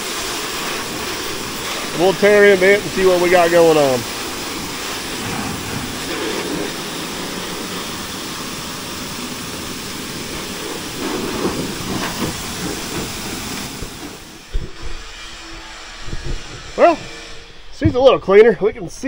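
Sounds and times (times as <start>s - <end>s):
pressure washer spraying water: 0.0s - 15.4s.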